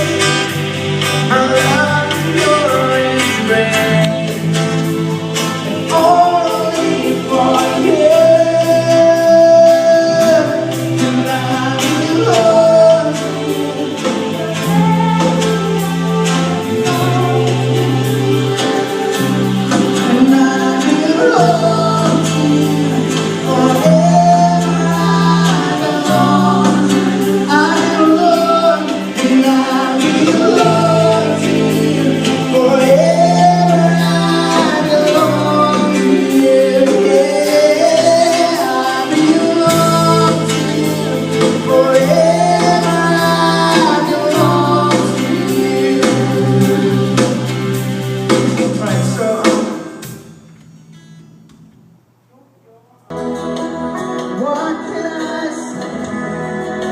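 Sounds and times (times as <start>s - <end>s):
low bass notes: 0.0s - 49.4s
voices singing: 0.0s - 49.8s, 52.3s - 56.9s.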